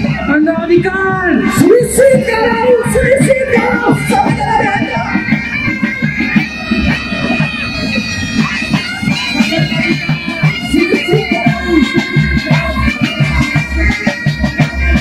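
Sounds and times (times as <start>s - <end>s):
bagpipes playing over drones: 0.0s - 15.0s.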